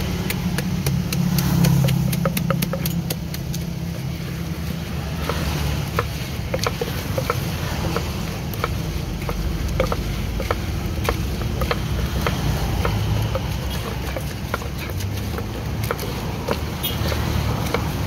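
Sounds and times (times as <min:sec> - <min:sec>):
pestle knocking in mortar: 0:00.0 - 0:18.0.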